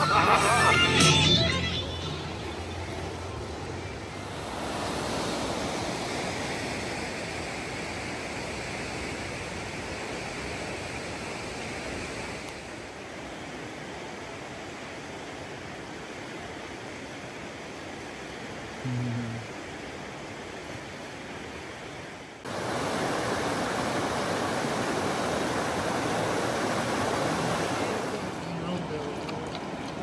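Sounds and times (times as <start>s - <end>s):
fast-flowing river water: 0.0s - 18.7s, 19.4s - 30.0s.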